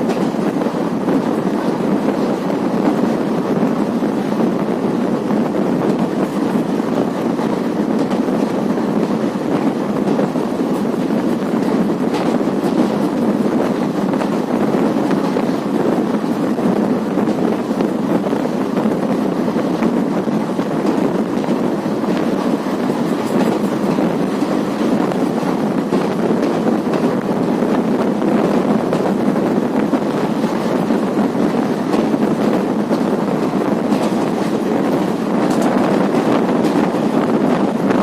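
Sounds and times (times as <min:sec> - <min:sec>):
train running on track: 0:00.0 - 0:38.0.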